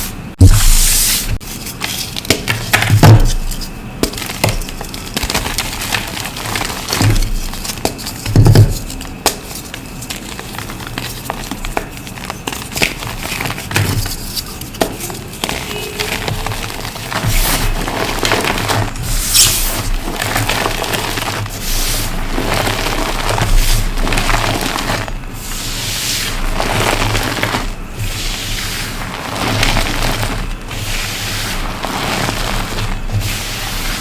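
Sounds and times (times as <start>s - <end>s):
chalk blocks being crushed: 1.6s - 34.0s.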